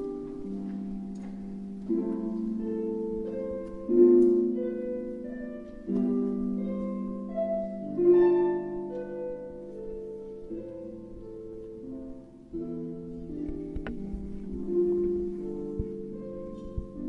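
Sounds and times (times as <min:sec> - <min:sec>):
harps playing: 0:00.0 - 0:17.0.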